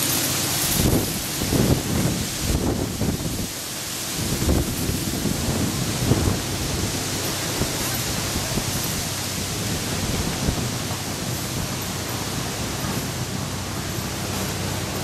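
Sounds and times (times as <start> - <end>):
wind rushing over microphone: 0.0 - 13.4.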